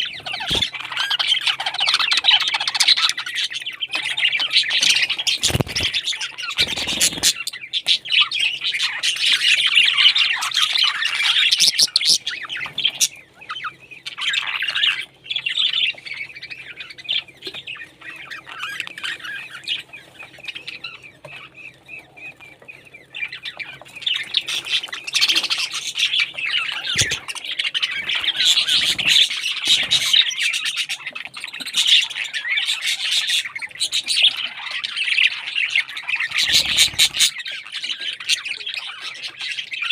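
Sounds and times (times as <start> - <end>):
parrots squawking and chirping: 0.0 - 39.9.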